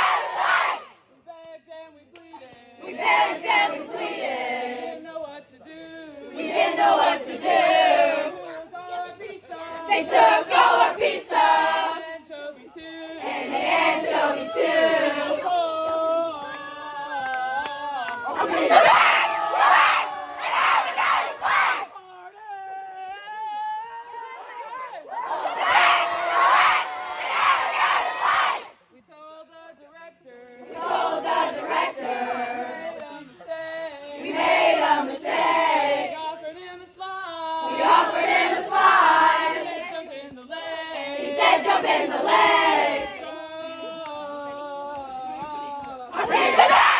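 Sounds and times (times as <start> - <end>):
group of young voices singing: 0.0 - 1.0, 2.4 - 22.0, 24.0 - 28.8, 30.4 - 46.9.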